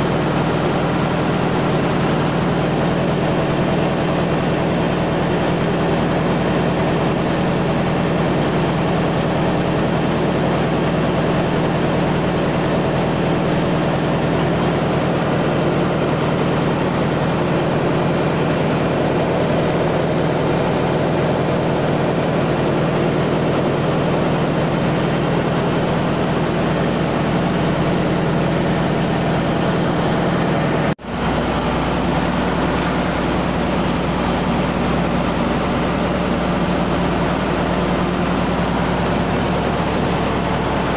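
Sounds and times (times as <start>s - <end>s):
engine room machinery droning: 0.0s - 40.9s.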